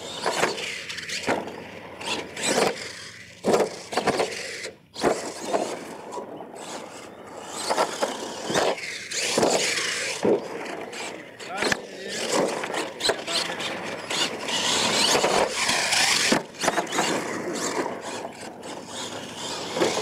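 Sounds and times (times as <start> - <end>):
toy truck motor revving: 0.0 - 20.0
tyres scrabbling on dirt: 0.0 - 20.0.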